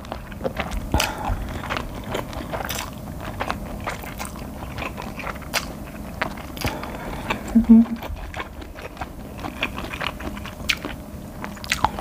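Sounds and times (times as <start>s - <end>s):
chewing noodles: 0.0s - 12.0s.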